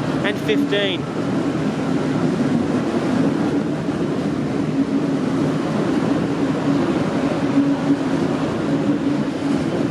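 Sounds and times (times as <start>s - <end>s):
train diesel engine drone: 0.0s - 9.9s.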